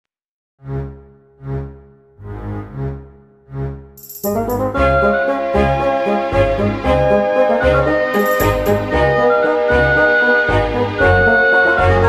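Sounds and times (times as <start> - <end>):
background music sustained chords: 0.6 - 12.0.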